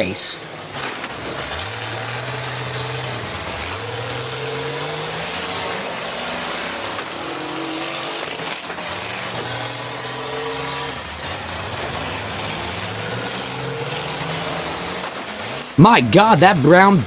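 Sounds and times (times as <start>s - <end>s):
bus engines revving: 0.0s - 17.0s
noisy arena din: 0.0s - 17.0s.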